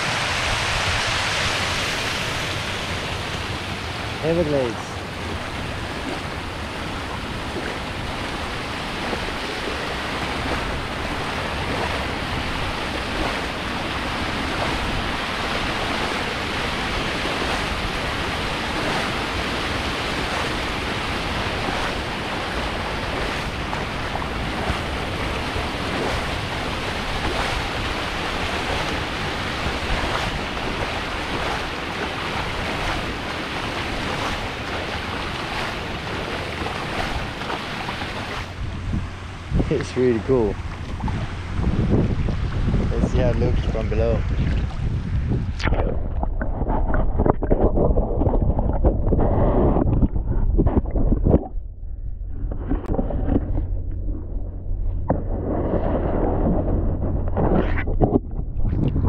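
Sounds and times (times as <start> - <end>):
water rushing: 0.0 - 51.6, 52.4 - 59.0
wind buffeting microphone: 0.0 - 59.0.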